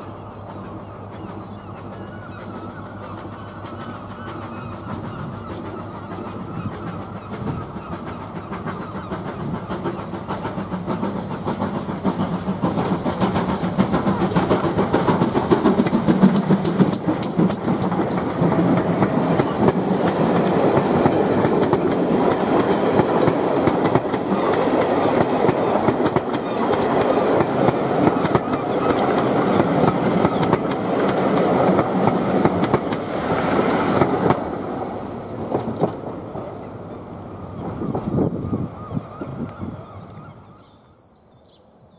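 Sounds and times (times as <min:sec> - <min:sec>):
train wheels clicking over rail joints: 0:00.4 - 0:37.0.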